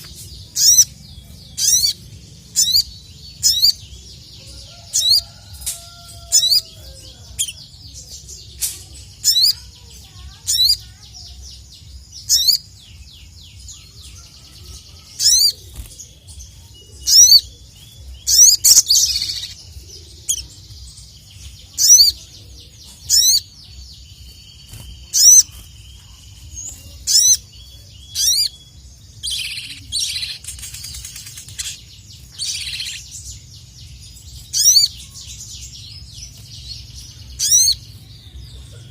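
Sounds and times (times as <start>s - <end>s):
buzzy bird trill: 0.0s - 38.9s.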